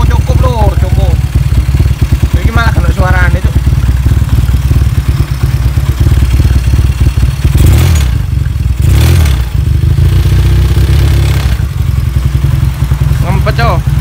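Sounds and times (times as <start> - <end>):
motorcycle engine revving and idling: 0.0 - 14.0.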